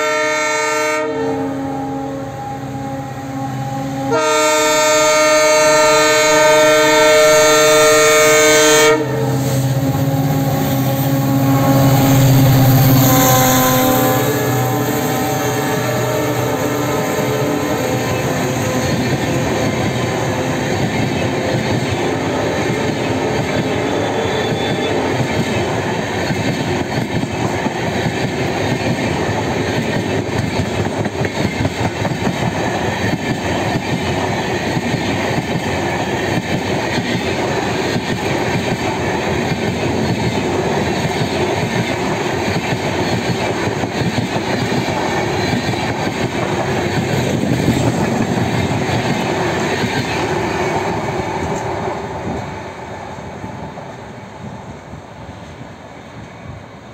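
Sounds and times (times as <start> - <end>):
train rumbling past: 0.0 - 56.9.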